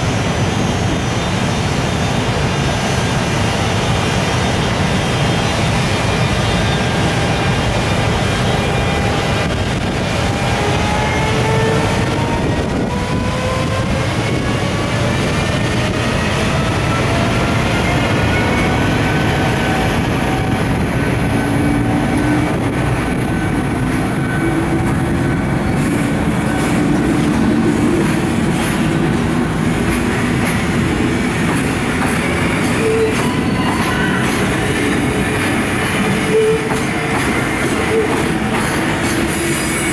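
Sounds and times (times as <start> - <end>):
freight train rolling rumble: 0.0 - 39.9.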